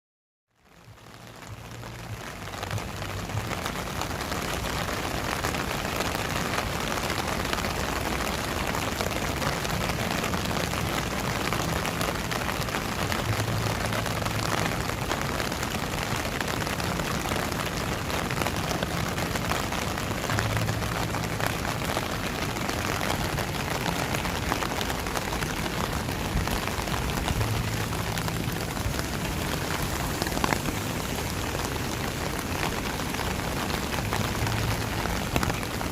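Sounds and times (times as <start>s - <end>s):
steady rain falling: 0.5s - 35.9s.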